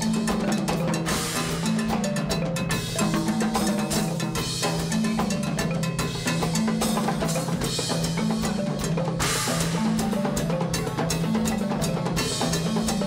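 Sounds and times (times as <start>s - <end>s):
latin percussion ensemble: 0.0s - 13.0s.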